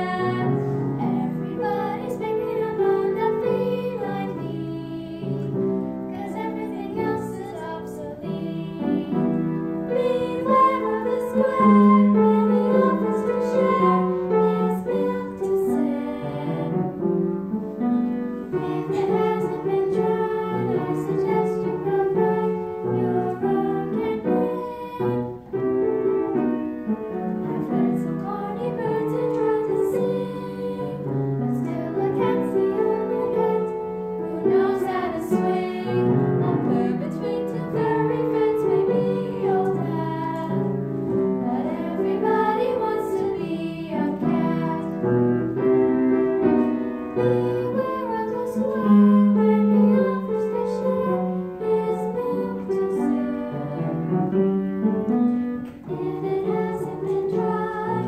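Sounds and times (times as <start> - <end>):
girls singing together: 0.0 - 58.0
grand piano: 0.0 - 58.0.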